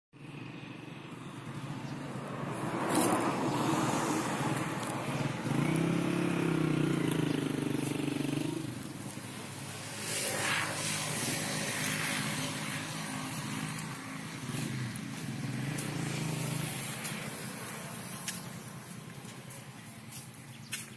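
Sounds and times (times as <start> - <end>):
vehicle engine running: 0.2 - 20.9.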